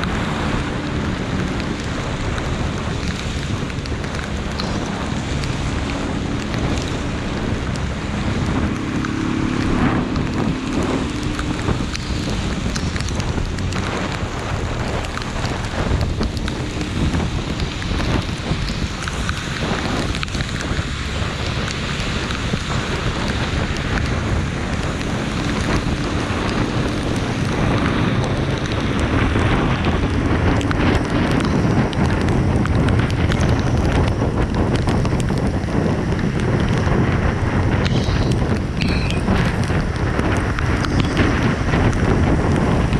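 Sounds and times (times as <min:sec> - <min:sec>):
heavy rain: 0:00.0 - 0:42.9
wind noise on microphone: 0:00.0 - 0:42.9.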